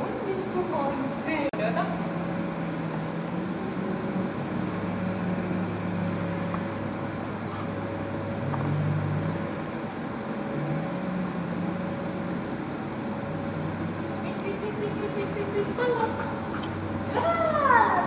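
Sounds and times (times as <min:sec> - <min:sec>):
low machine drone: 0:00.0 - 0:18.0.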